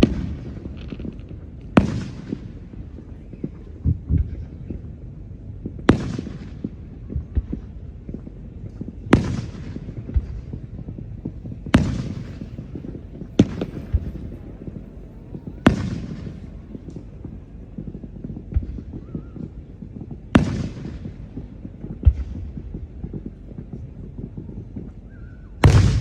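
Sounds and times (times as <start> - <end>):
faint fireworks pops and thuds: 0.0 - 26.0
fireworks bangs: 0.0 - 26.0.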